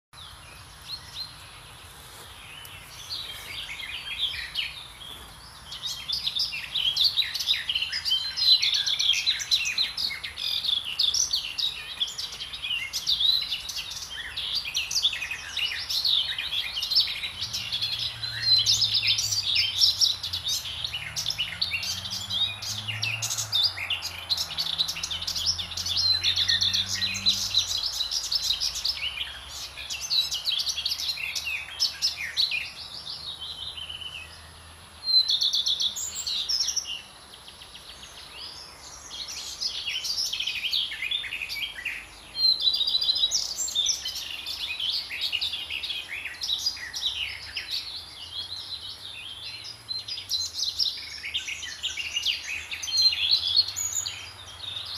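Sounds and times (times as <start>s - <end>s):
songbirds chirping: 0.1s - 54.9s.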